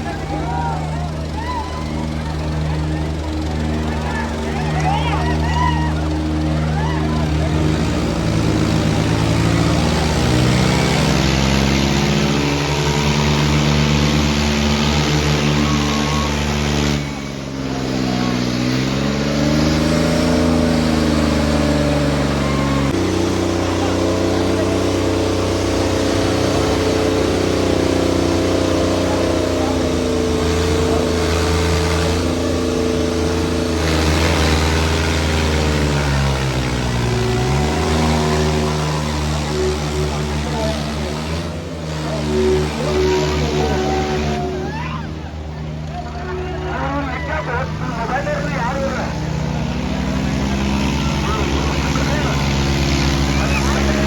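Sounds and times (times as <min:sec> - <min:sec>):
tractor diesel engines droning: 0:00.0 - 0:54.0.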